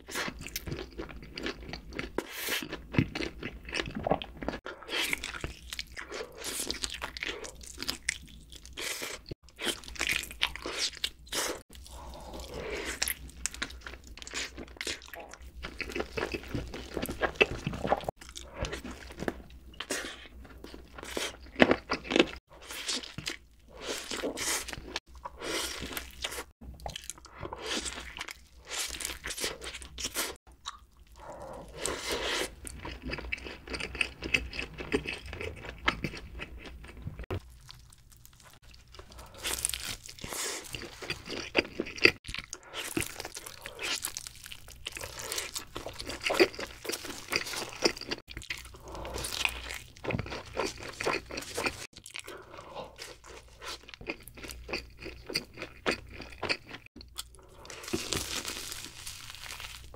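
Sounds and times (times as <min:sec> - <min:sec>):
chewing and crunching chicken: 0:00.0 - 0:59.9.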